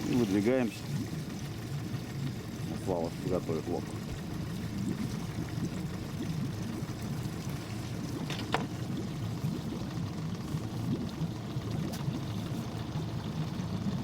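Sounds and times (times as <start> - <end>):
outboard boat motor idling: 0.0 - 14.0
water trickling and splashing: 0.0 - 14.0.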